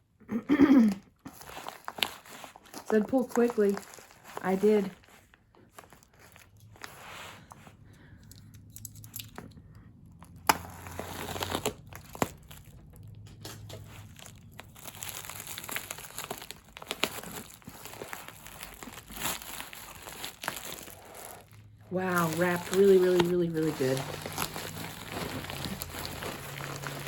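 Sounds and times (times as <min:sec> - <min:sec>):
package wrapping crinkling: 0:01.2 - 0:07.0, 0:10.2 - 0:27.0
wrapping snapping: 0:01.2 - 0:09.6, 0:10.2 - 0:27.0.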